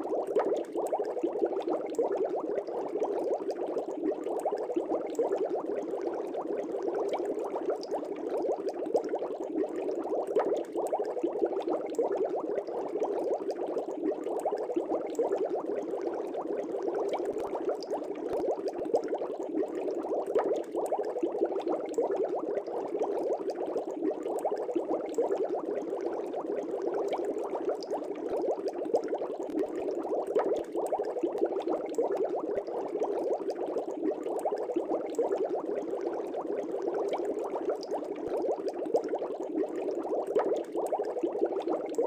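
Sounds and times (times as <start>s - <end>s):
air bubbling through water: 0.0s - 42.0s.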